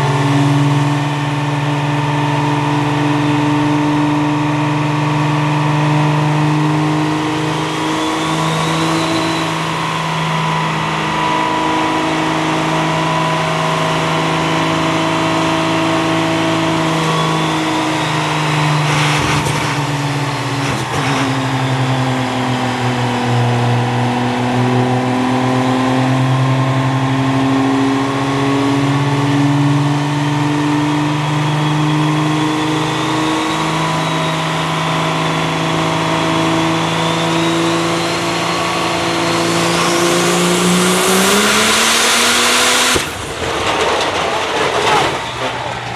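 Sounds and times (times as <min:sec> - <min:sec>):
diesel truck engine running hard: 0:00.0 - 0:45.9.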